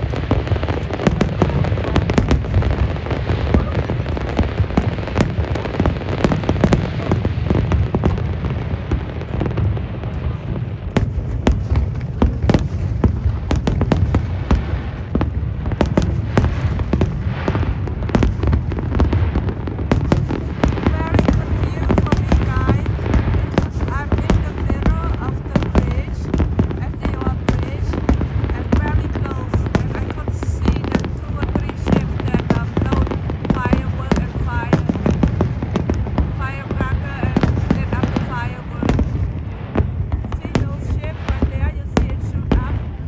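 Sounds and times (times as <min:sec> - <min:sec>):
fireworks booming: 0:00.0 - 0:43.0
fireworks cracks and pops: 0:00.0 - 0:43.0.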